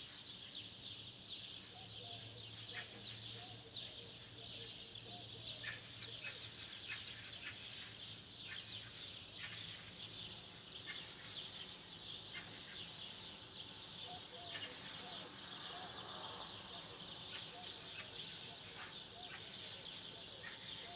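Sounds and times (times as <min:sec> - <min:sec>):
small birds chirping chorus: 0:00.0 - 0:20.9.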